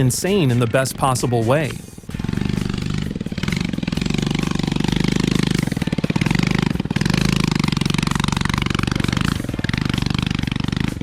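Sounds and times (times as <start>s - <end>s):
motorcycle engine puttering: 0.0s - 11.0s.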